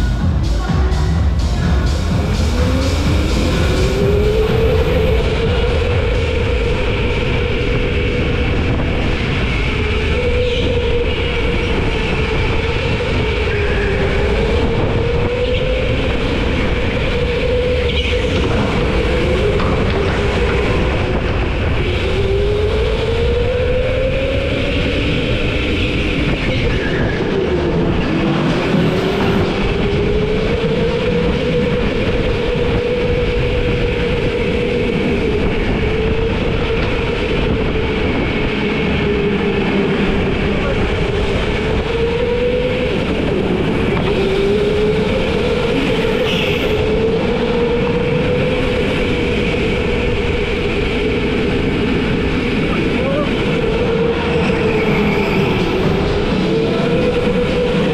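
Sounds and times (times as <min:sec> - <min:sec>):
go-kart engine droning: 0:00.0 - 0:57.9.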